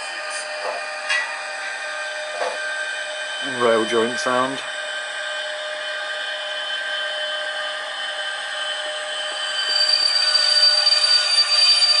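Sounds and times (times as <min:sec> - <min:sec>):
high steady tone: 0:00.0 - 0:12.0
model locomotive motor whine: 0:00.0 - 0:12.0.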